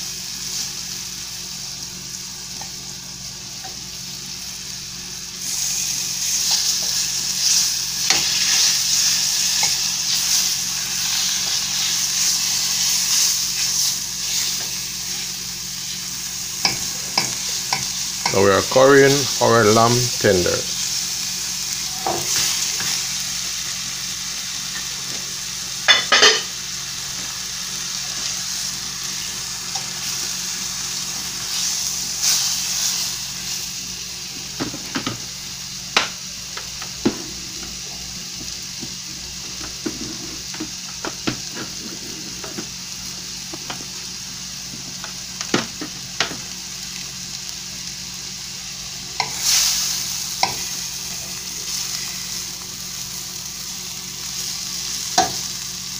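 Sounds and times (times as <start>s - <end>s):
meat sizzling in a frying pan: 0.0s - 55.9s.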